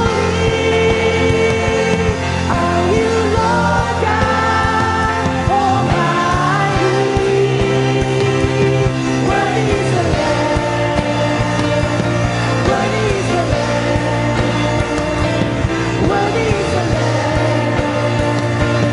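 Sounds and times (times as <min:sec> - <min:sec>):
person singing: 0:00.0 - 0:18.9
regular drum beat: 0:00.0 - 0:18.9
steady bass notes: 0:00.0 - 0:18.9.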